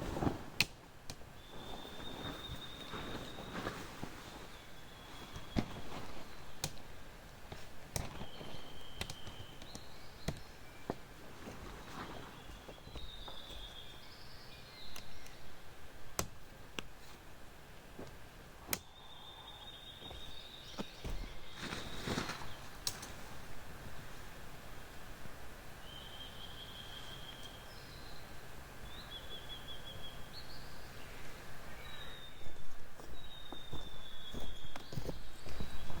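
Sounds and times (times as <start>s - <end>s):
low noisy background: 0.0s - 36.0s.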